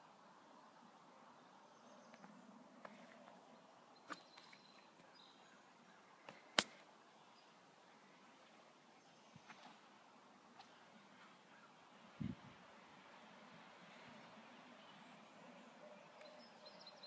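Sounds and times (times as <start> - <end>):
lakeside ambience: 0.0 - 17.0.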